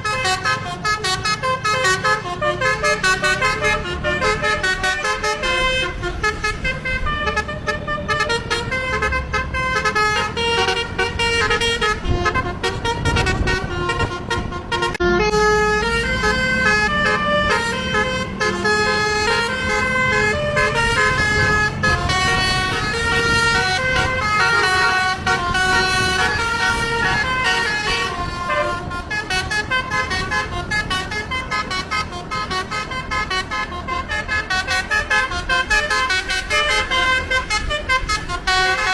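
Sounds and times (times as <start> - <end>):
low engine rumble: 0.0 - 38.9
multi-tone air horn melodies: 0.0 - 38.9.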